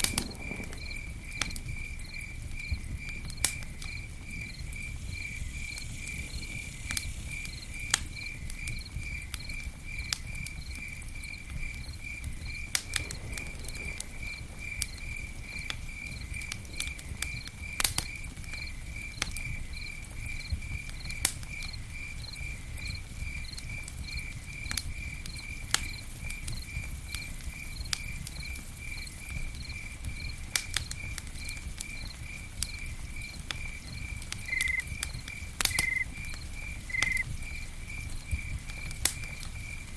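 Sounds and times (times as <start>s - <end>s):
campfire crackling and popping: 0.0s - 39.9s
cricket chirping: 0.0s - 39.9s
low fire rumble: 0.0s - 39.9s.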